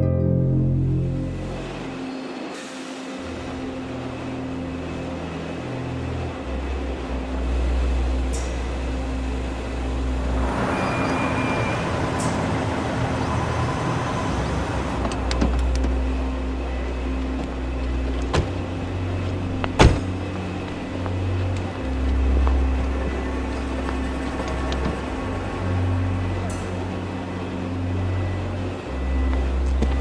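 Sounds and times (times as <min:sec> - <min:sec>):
low steady drone: 0:00.0 - 0:30.0
car engine and tyre noise: 0:00.4 - 0:30.0.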